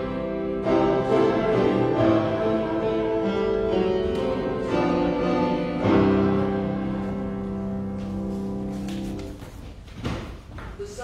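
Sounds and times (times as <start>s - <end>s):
slow keyboard chords: 0.0s - 9.6s.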